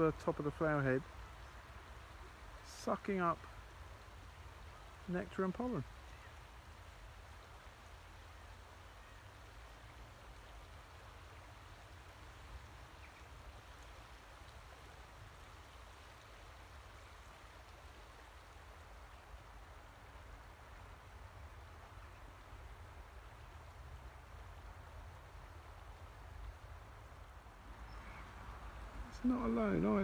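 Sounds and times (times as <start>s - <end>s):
river flowing: 0.0s - 30.0s.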